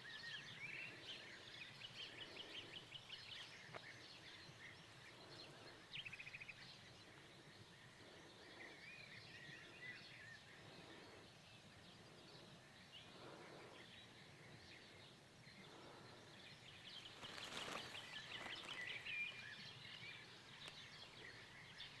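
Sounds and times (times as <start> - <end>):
birds chirping and trilling: 0.0 - 22.0
outdoor background noise: 0.0 - 22.0.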